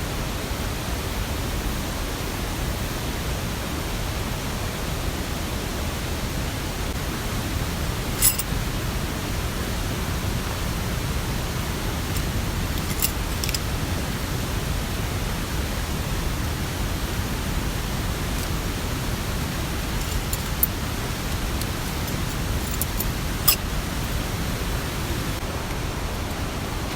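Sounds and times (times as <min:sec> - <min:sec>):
rain: 0:00.0 - 0:26.9
mountain stream rushing: 0:00.7 - 0:26.9.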